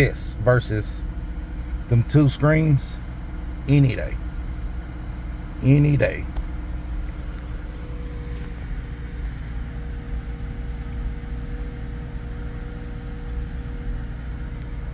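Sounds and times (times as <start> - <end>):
car engine idling: 0.0 - 14.9
faint steady whine: 0.0 - 14.9.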